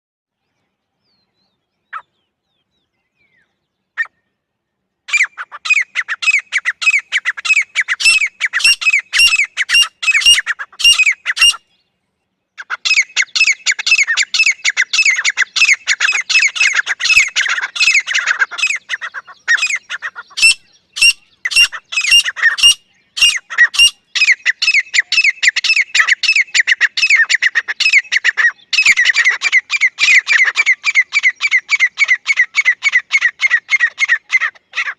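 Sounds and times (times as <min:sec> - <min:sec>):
francolin calling: 0:05.1 - 0:11.7, 0:12.6 - 0:34.9.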